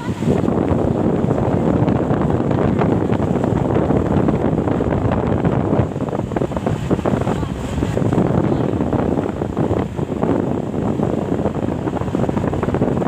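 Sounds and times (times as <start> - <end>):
road traffic rumble: 0.0 - 13.0
wind buffeting microphone: 0.0 - 13.0.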